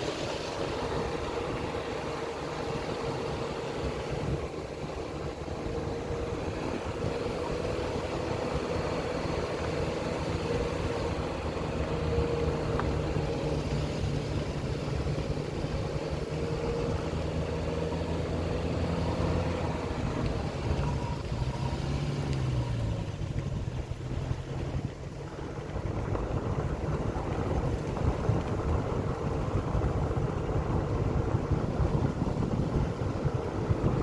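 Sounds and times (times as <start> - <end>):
car engine running: 0.0 - 34.0
road noise: 0.0 - 34.0.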